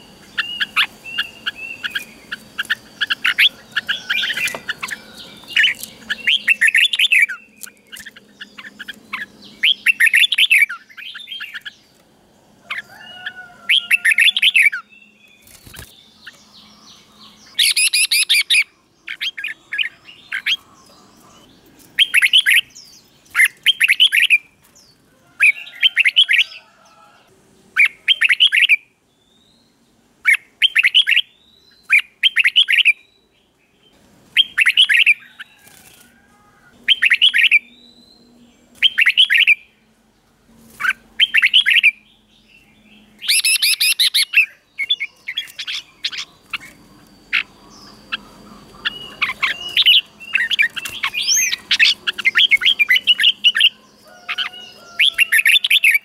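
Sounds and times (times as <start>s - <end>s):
bulbul singing: 0.0s - 12.0s, 12.6s - 26.7s, 27.6s - 35.6s, 36.8s - 40.1s, 40.8s - 56.0s.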